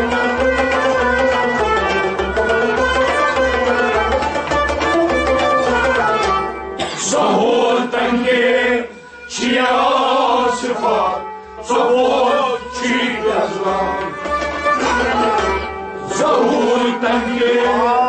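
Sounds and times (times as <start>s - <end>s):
harmonium melody: 0.0s - 6.8s, 9.2s - 18.0s.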